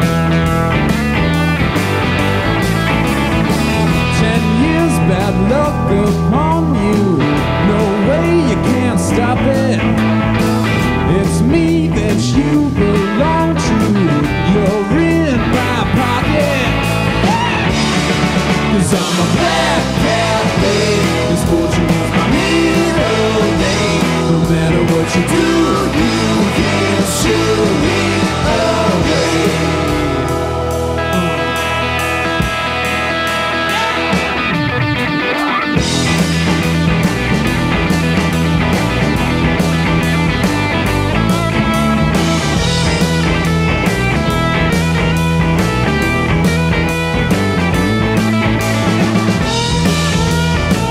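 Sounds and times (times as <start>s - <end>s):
bass and drums: 0.0s - 50.9s
electric guitar bending notes: 0.0s - 50.9s.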